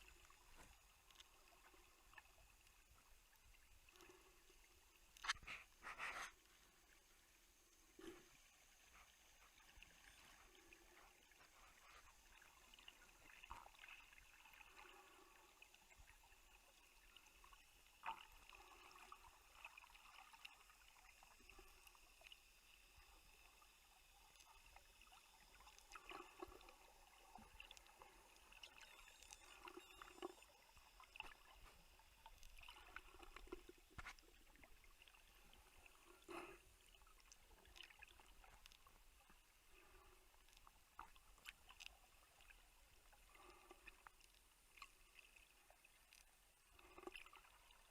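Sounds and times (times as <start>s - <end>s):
water sloshing and gurgling: 0.0s - 47.9s.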